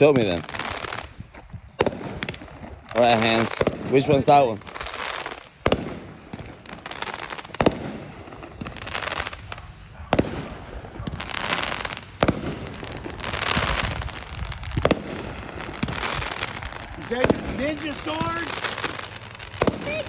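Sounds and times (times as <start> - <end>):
fireworks hissing and crackling: 0.0 - 20.0
firework bangs: 1.8 - 20.0.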